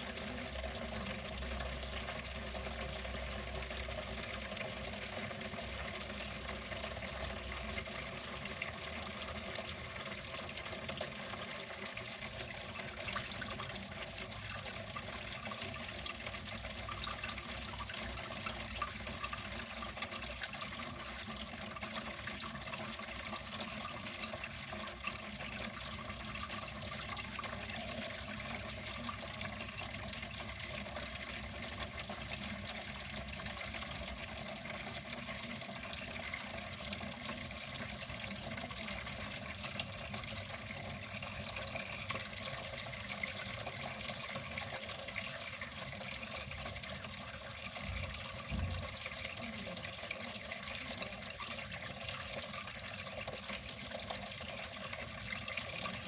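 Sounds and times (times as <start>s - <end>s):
water flowing and splashing: 0.0s - 56.0s.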